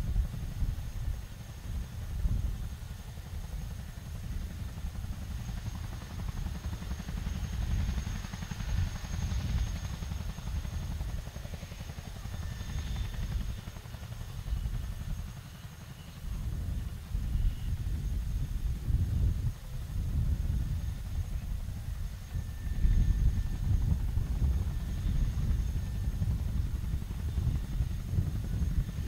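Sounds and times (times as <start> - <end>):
helicopter rotor beat: 0.0 - 29.0
turbine whine: 0.0 - 29.0.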